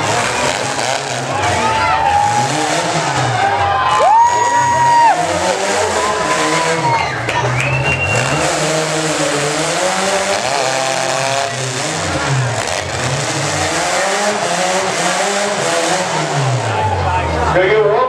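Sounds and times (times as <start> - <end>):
small race truck engines revving: 0.0 - 18.0.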